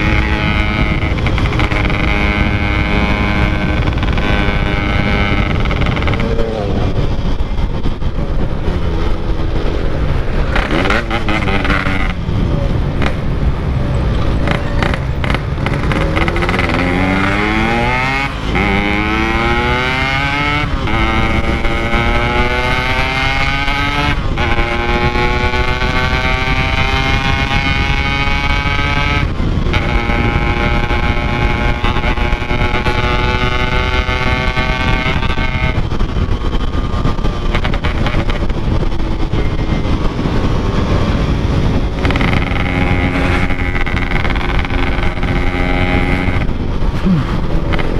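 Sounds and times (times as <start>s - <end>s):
two-stroke motorcycle engine revving: 0.0s - 47.9s
wind rushing across microphone: 0.0s - 47.9s.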